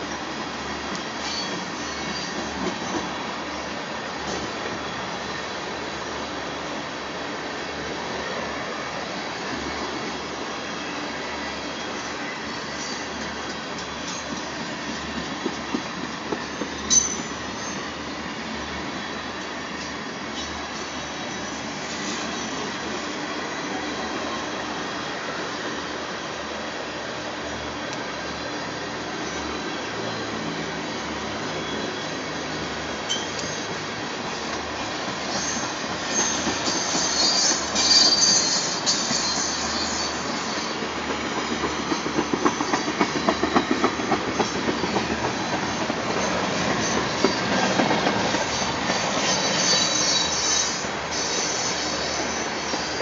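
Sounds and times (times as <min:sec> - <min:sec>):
freight train wheels on rail: 0:00.0 - 0:53.0.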